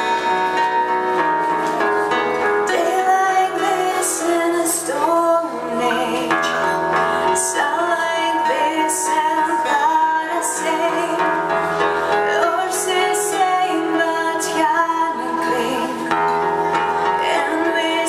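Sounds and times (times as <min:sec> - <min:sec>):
live band playing: 0:00.0 - 0:18.0
woman singing: 0:02.6 - 0:18.0.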